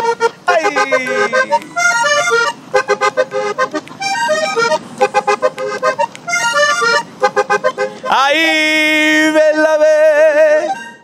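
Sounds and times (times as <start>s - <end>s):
button accordion playing: 0.0s - 11.0s.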